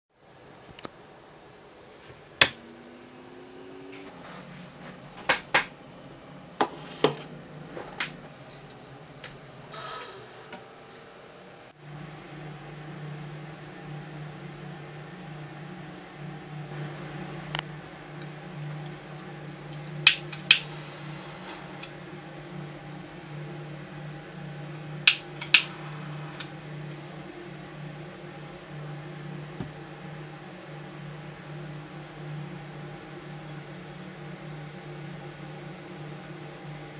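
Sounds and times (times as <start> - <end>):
fan whine and hum: 0.2 - 36.9.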